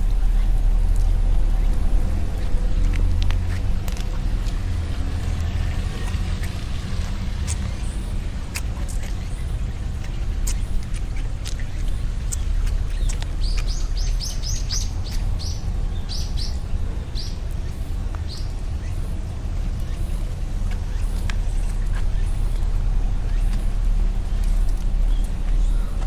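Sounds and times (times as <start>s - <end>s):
small bird chirping: 0.0s - 26.0s
steady low rumble: 0.0s - 26.0s.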